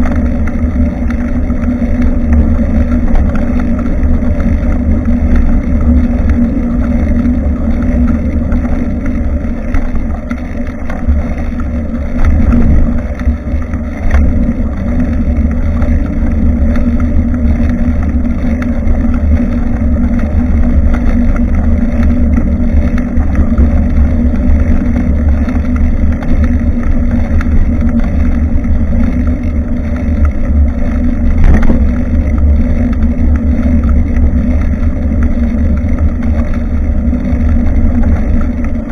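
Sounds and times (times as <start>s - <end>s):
road vibration rumble: 0.0s - 38.9s.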